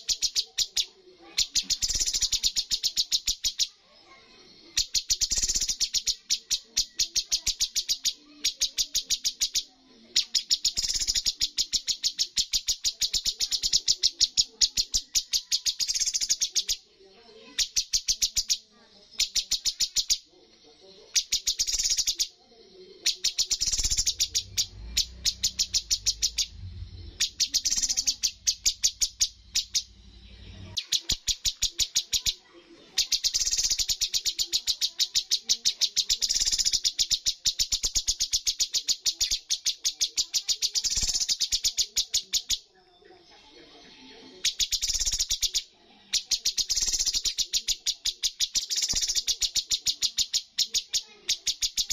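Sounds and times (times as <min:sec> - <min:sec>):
songbird rapid high chirps: 0:00.0 - 0:42.7, 0:44.2 - 0:51.9.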